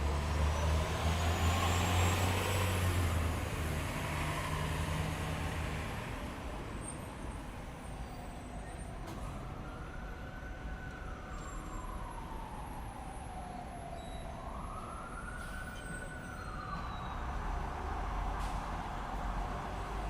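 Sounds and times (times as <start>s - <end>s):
city traffic rumble: 0.0s - 20.0s
emergency vehicle siren wailing: 0.0s - 20.0s.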